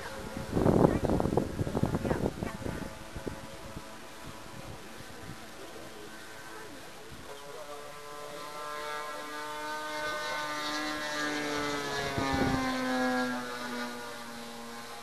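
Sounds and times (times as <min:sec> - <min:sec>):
model plane engines flying past: 0:00.0 - 0:15.0.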